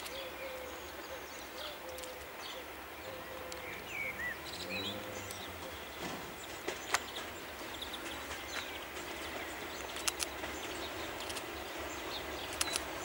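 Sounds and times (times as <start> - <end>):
faint diesel locomotive rumble: 0.0 - 13.0
small birds chirping: 0.0 - 13.0.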